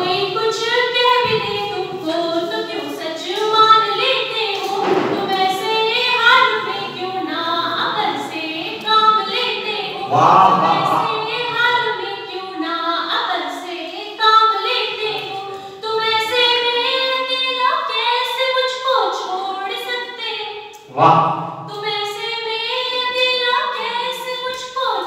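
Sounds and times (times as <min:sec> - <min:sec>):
woman singing unaccompanied: 0:00.0 - 0:20.6, 0:21.7 - 0:25.0.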